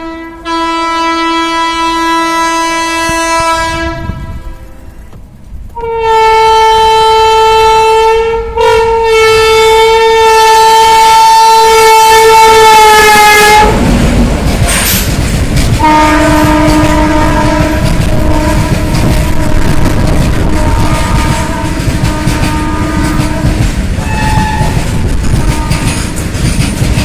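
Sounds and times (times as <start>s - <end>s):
locomotive horn blasts: 0.0s - 4.9s, 5.8s - 13.8s, 15.8s - 26.1s
freight train running past: 0.0s - 27.0s.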